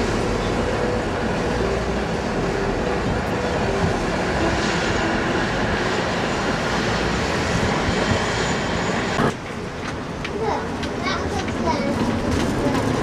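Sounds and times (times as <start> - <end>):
street traffic rumble: 0.0 - 13.0
streetcar rolling along track: 0.0 - 13.0.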